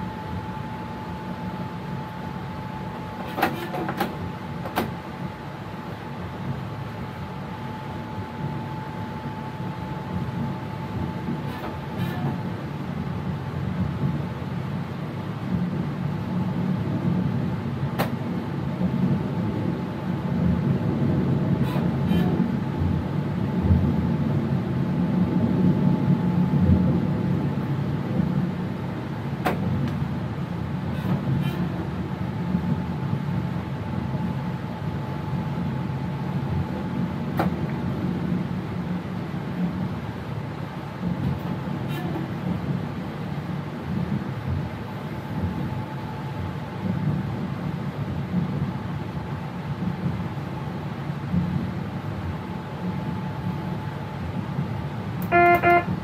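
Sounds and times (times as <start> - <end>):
faint constant whine: 0.0 - 56.0
train low rumble: 0.0 - 56.0.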